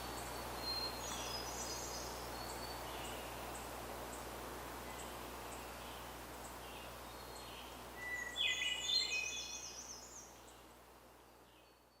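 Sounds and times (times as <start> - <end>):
faint distant bird chirps: 0.0 - 12.0
outdoor hiss: 0.0 - 12.0
songbird singing: 0.0 - 12.0.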